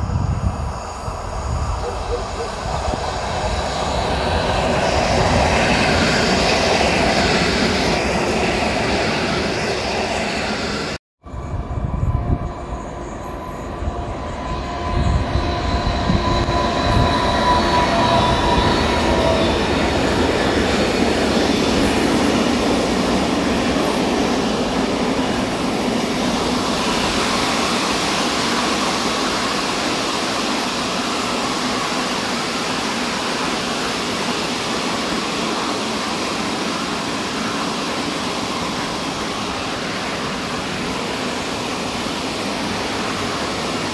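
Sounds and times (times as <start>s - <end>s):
train rolling rumble: 0.0s - 43.9s
train wheels squealing: 0.1s - 43.9s.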